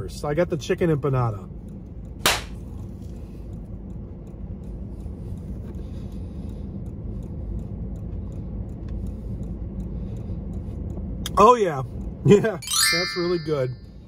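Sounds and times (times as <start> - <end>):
low rumble in car cabin: 0.0 - 12.6.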